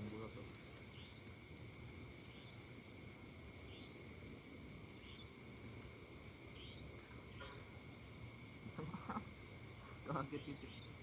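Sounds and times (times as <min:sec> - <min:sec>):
insect chirps: 0:00.0 - 0:11.0.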